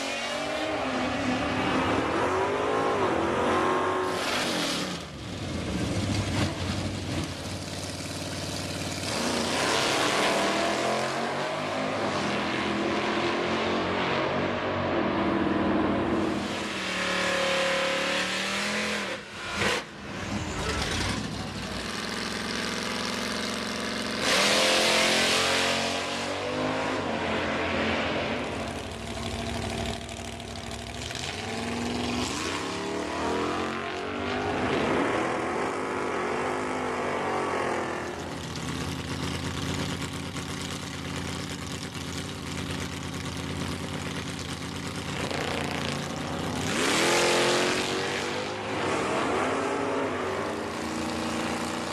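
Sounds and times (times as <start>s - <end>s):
racing car engines revving: 0.0s - 7.5s, 8.5s - 51.9s.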